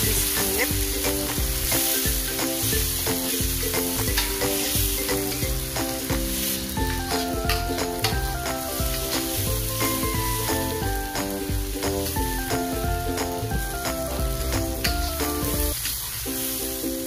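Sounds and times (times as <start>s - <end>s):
food sizzling in hot oil: 0.0s - 17.0s
soft background music: 0.0s - 17.0s.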